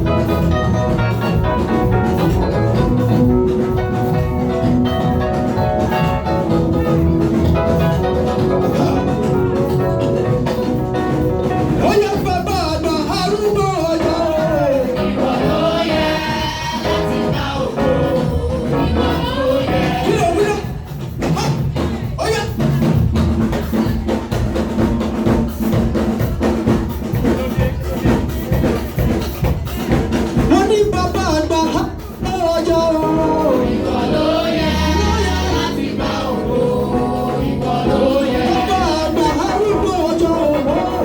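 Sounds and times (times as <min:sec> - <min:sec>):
melody line over drums: 0:00.0 - 0:21.0, 0:27.0 - 0:41.0
upbeat gospel dance music: 0:00.0 - 0:41.0.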